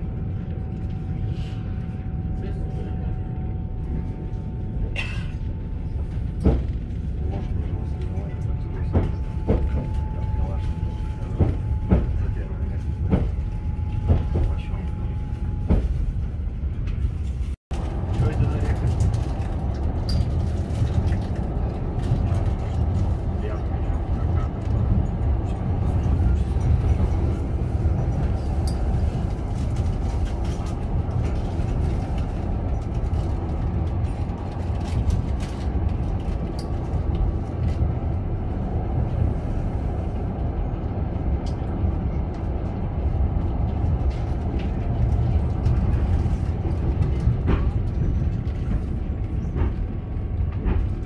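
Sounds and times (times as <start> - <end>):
train rumbling over bridge: 0.0 - 51.0.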